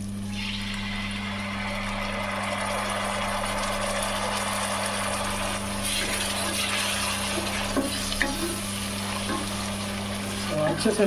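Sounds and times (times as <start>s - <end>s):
low hum: 0.0s - 10.5s
masala sizzling in a pot: 0.0s - 11.0s
hiss of water hitting hot food: 0.3s - 10.6s.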